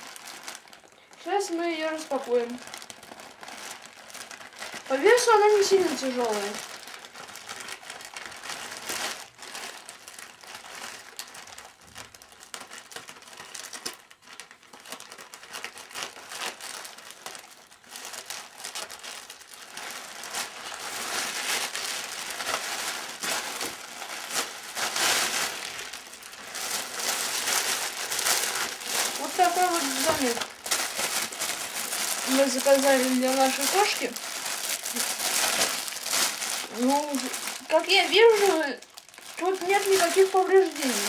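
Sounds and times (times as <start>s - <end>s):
packaging crinkling and rustling: 0.0s - 41.0s.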